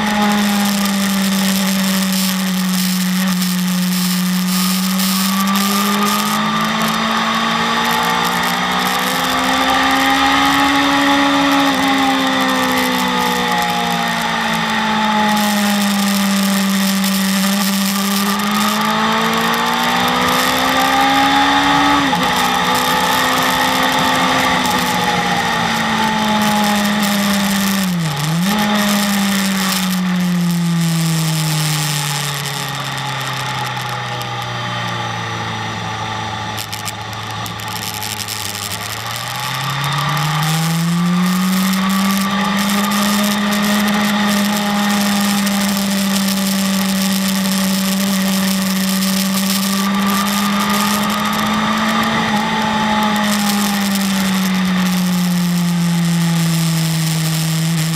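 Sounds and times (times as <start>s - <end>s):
motorcycle engine running hard: 0.0s - 57.9s.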